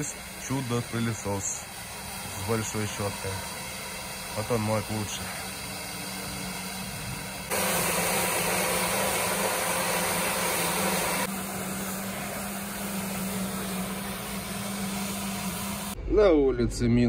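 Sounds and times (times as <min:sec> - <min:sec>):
pressure washer motor hum: 0:00.0 - 0:16.0
rush of water spray: 0:00.0 - 0:16.0.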